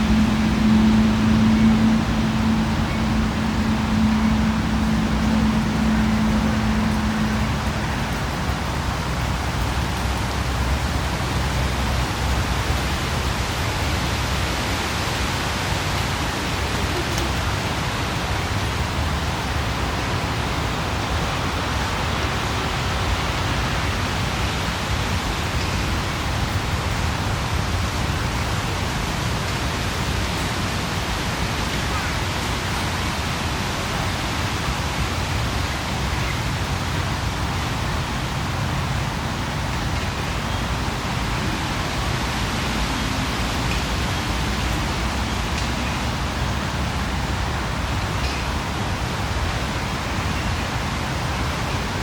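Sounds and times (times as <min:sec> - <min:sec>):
city ambience with low rumble: 0:00.0 - 0:52.0.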